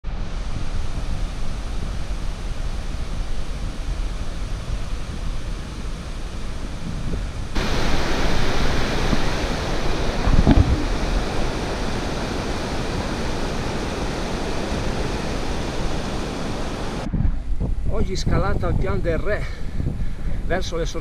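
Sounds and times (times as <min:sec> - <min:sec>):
wind rumble on microphone: 0:00.0 - 0:21.0
faint hiss: 0:00.1 - 0:17.1
river rushing over weirs: 0:00.1 - 0:17.1.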